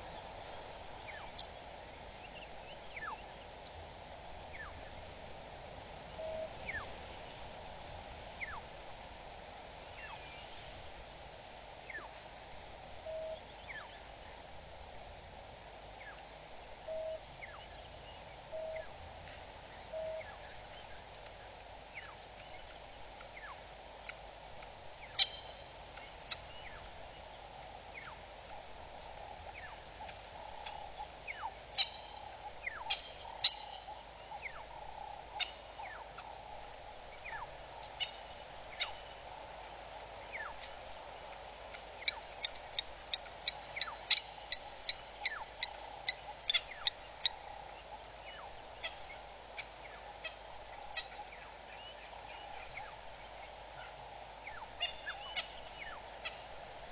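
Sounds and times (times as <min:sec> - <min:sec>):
background hiss: 0:00.0 - 0:56.9.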